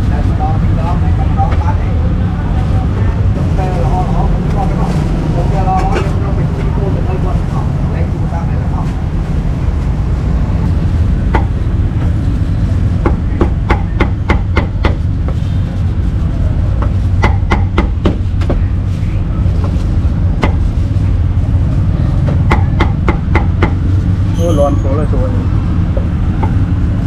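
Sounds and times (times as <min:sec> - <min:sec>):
low background rumble: 0:00.0 - 0:24.4.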